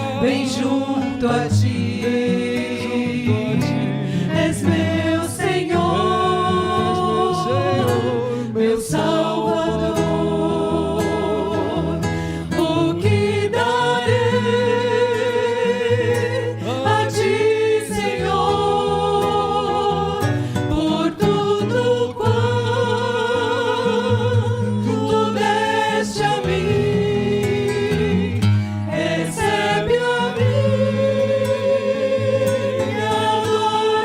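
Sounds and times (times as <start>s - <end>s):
vocal group singing worship song: 0.0s - 34.0s.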